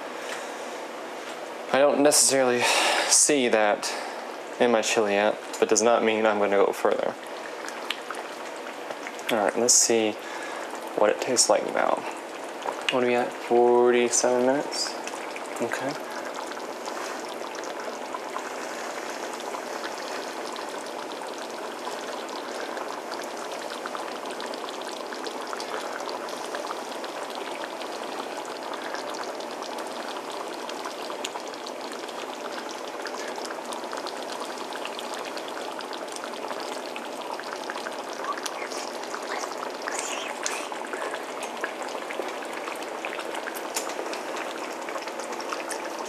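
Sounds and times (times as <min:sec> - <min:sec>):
pot simmering with bubbling: 0:00.0 - 0:46.0.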